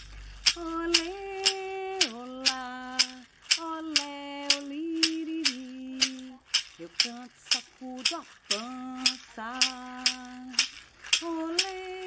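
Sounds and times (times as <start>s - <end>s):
wooden maraca shaking: 0.0s - 12.0s
woman singing slow melody: 0.5s - 12.0s.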